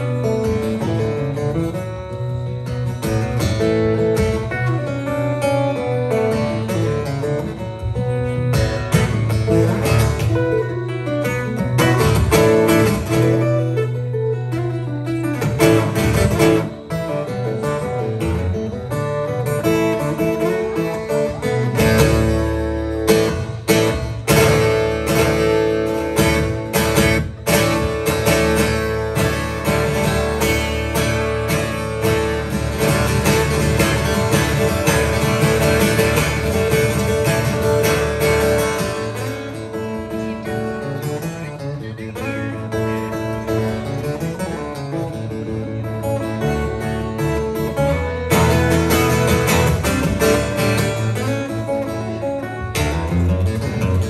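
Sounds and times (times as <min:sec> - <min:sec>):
solo acoustic guitar: 0:00.0 - 0:54.0.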